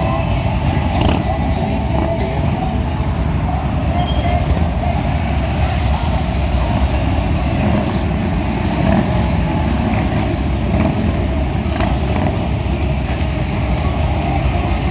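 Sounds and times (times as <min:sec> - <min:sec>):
motorcycle engines rumbling: 0:00.0 - 0:14.9.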